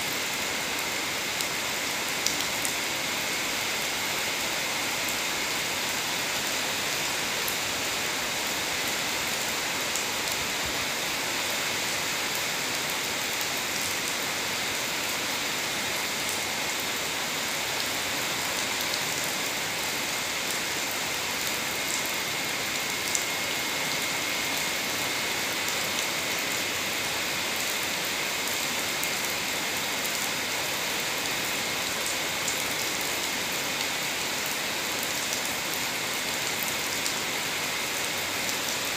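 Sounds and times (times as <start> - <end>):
rain on pavement and foliage: 0.0 - 38.9.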